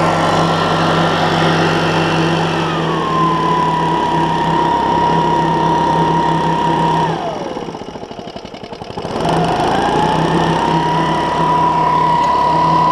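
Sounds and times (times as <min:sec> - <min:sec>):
leaf blower engine: 0:00.0 - 0:12.9.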